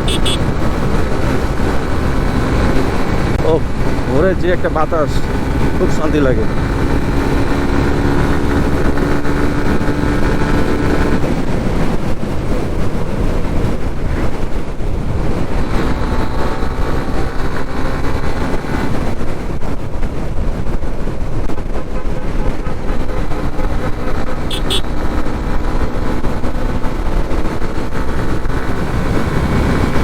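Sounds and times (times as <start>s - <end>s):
motorcycle engine hum: 0.0s - 30.0s
wind rushing over microphone: 0.0s - 30.0s.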